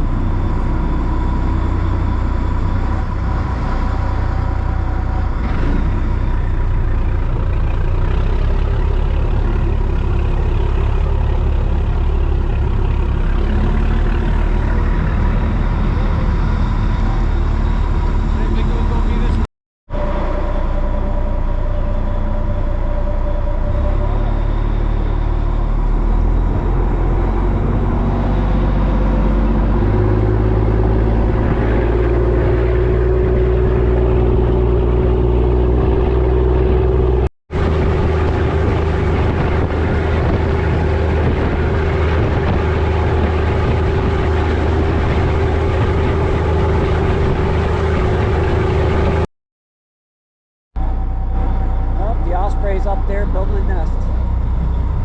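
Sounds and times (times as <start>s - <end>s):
engine humming: 0.0s - 49.3s, 50.8s - 55.0s.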